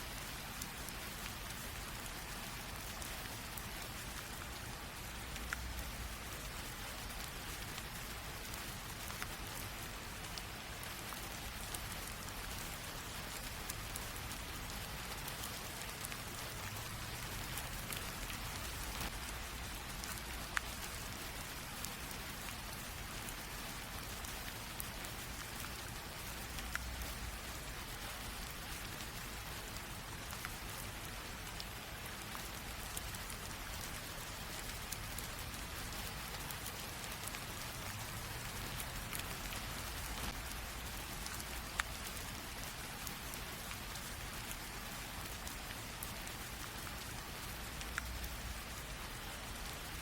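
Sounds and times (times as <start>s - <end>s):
light rain hissing: 0.0s - 50.0s
raindrops ticking: 0.1s - 50.0s.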